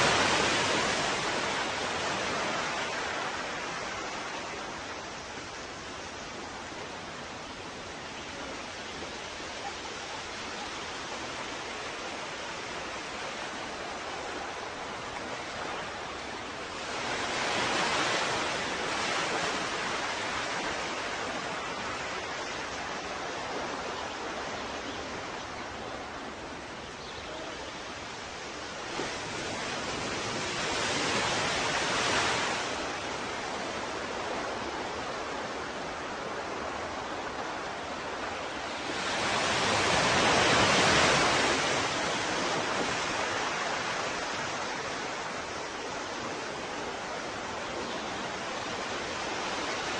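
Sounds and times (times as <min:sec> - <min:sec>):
ocean waves breaking: 0:00.0 - 0:49.9.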